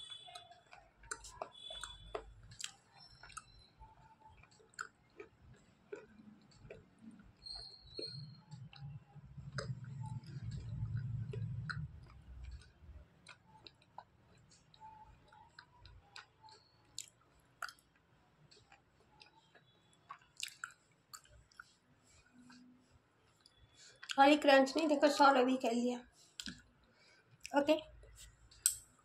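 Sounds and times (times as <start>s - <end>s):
muffled chewing: 0.0s - 25.3s, 26.0s - 28.8s.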